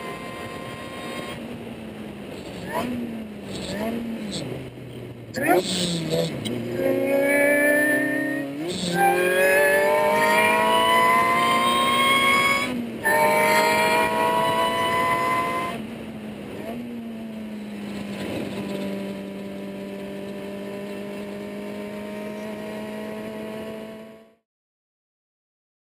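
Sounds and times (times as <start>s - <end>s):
wind noise: 0.0s - 23.9s
car engine revving: 0.0s - 24.4s.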